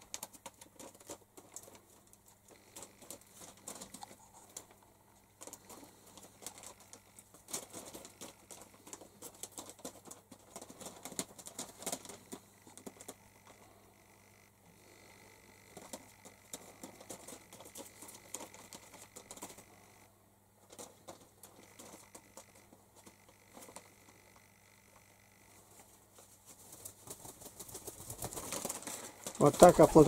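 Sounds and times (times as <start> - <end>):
pigeon feet scratching on newspaper: 0.0 - 13.7, 14.9 - 20.0, 20.6 - 24.2, 25.6 - 30.0.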